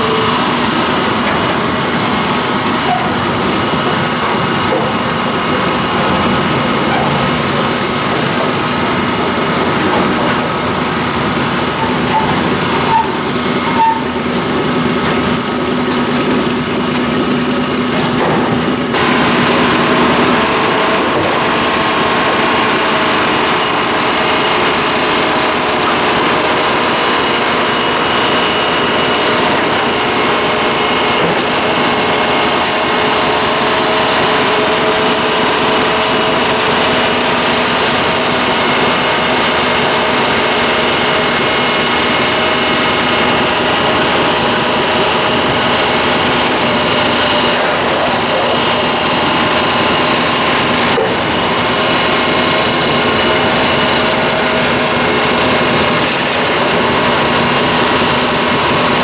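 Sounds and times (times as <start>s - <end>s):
high steel wheel squealing: 0.0s - 59.0s
train passing with metallic whine: 0.0s - 59.0s.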